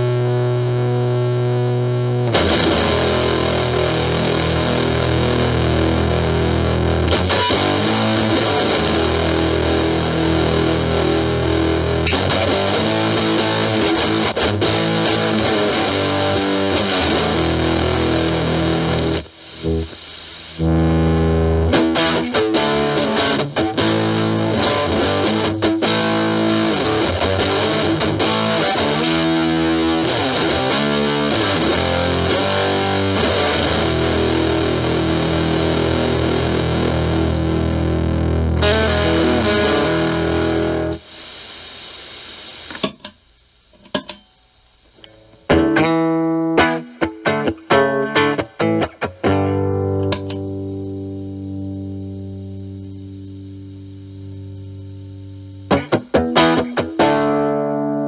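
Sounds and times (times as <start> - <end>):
distorted electric guitar: 0.0 - 58.0.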